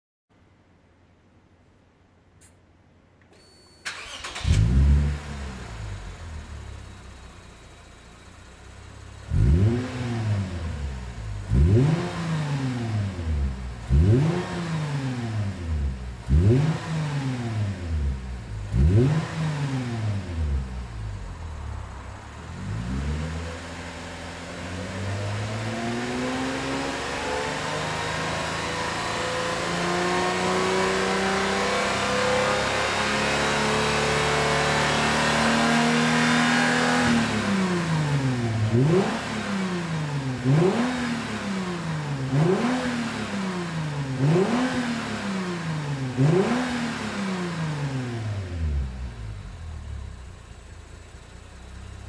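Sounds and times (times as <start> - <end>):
car engine revving: 3.9 - 52.0.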